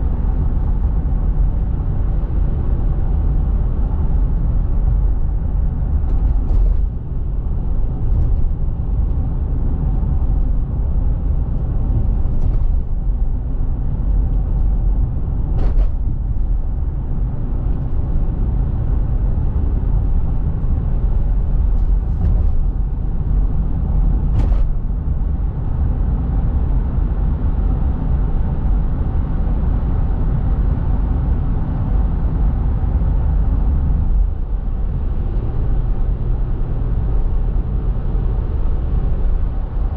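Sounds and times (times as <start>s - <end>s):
low rumbling noise: 0.0s - 39.9s.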